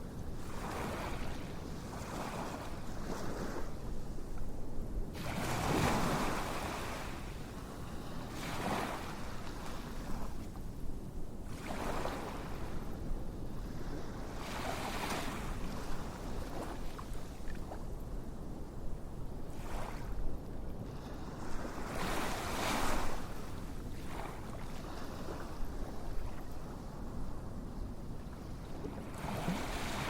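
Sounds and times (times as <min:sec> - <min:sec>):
ocean waves washing ashore: 0:00.2 - 0:04.4, 0:05.1 - 0:10.5, 0:11.4 - 0:17.8, 0:20.8 - 0:30.0.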